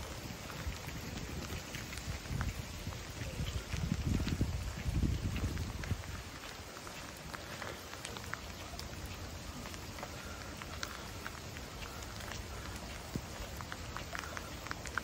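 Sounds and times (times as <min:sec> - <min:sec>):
rain on a stone street: 0:00.0 - 0:15.0.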